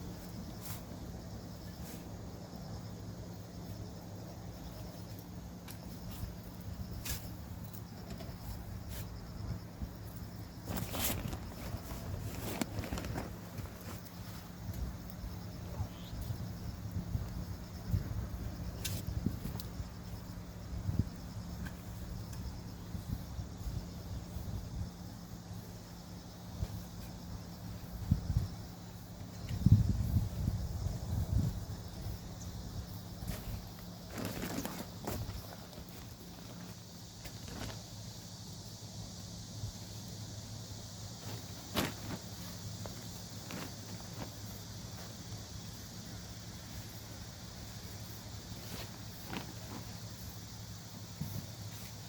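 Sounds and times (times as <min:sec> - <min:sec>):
crickets trilling: 0:00.0 - 0:52.0
insects chirping faintly: 0:00.0 - 0:52.0.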